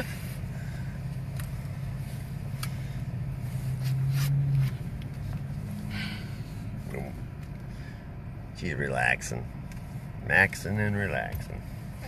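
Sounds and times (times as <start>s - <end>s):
car engine hum inside cabin: 0.0s - 12.0s.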